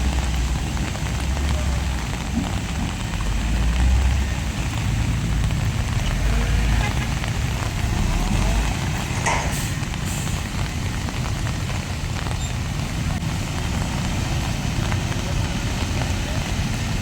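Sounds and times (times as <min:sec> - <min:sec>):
diesel engine rumbling: 0:00.0 - 0:17.0
rain hissing: 0:00.0 - 0:17.0.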